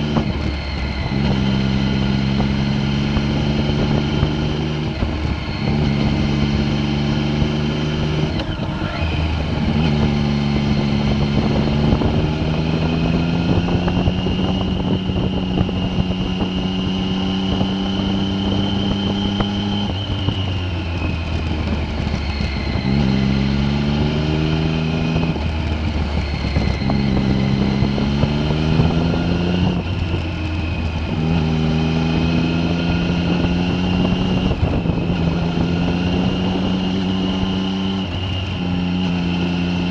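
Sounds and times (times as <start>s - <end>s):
vehicle engine under load: 0.0s - 39.9s.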